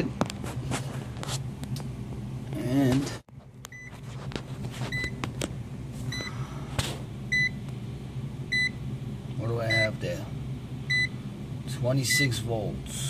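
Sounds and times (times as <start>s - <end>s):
hvac unit humming: 0.0s - 13.0s.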